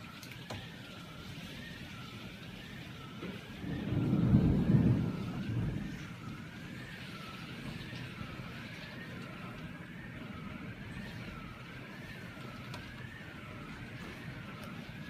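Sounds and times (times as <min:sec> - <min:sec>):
emergency vehicle siren wailing: 0:00.0 - 0:15.0
heavy rain hissing: 0:00.0 - 0:15.0.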